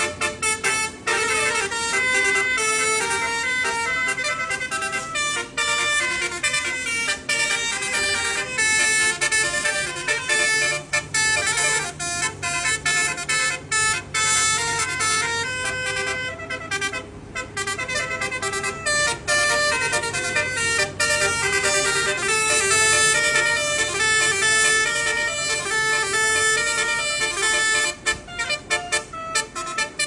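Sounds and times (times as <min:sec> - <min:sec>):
musical air horn tune: 0:00.0 - 0:30.0
truck engine running: 0:00.0 - 0:30.0.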